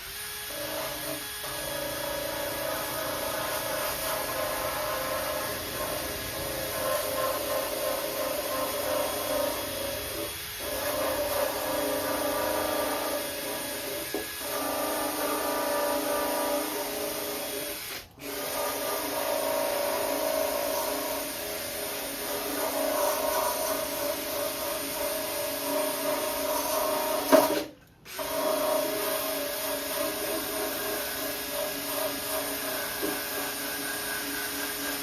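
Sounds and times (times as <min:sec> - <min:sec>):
small power tool running: 0:00.0 - 0:35.0.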